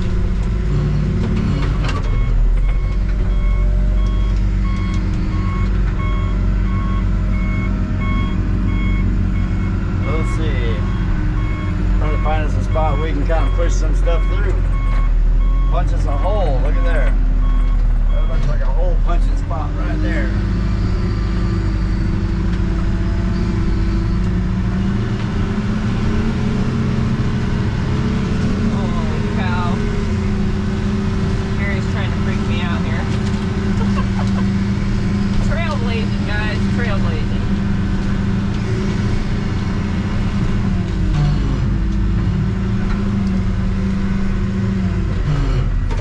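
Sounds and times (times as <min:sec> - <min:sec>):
backhoe engine running: 0:00.0 - 0:46.0.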